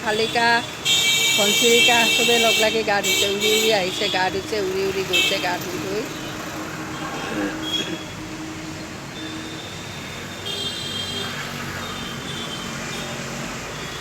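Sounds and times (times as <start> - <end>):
background traffic noise: 0.0 - 14.0.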